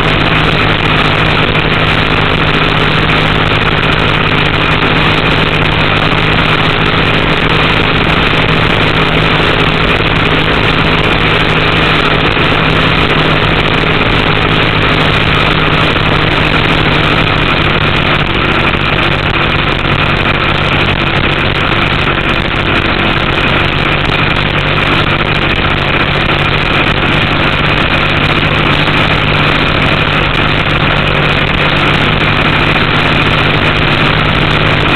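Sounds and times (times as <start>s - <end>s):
boat engine running steadily: 0.0s - 34.9s
rush of wind and water: 0.0s - 34.9s.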